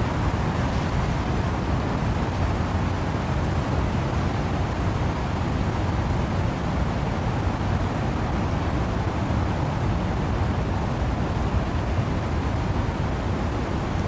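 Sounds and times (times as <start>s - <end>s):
wind and rain rushing: 0.0s - 14.0s.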